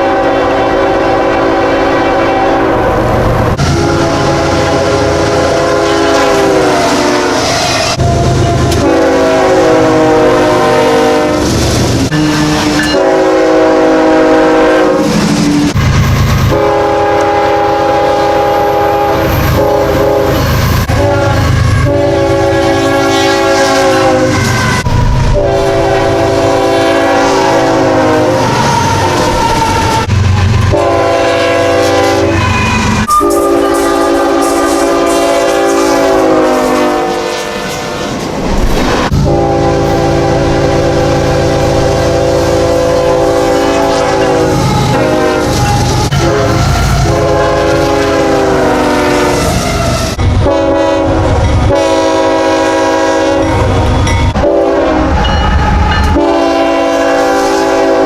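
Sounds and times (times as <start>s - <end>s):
locomotive horn blasts: 0.0s - 11.5s, 12.1s - 38.2s, 39.1s - 58.0s.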